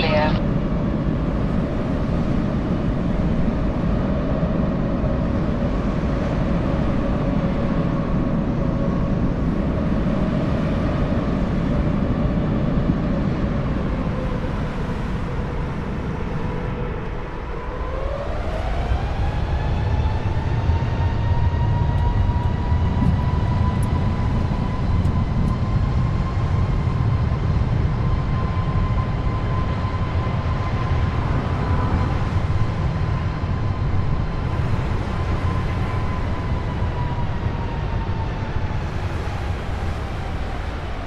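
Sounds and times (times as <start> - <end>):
jet engines rumbling in cabin: 0.0 - 17.6, 19.0 - 41.0.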